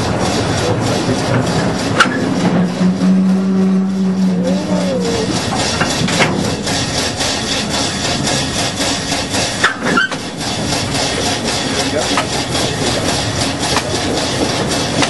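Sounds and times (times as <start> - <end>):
locomotive steady hiss: 0.0 - 15.0.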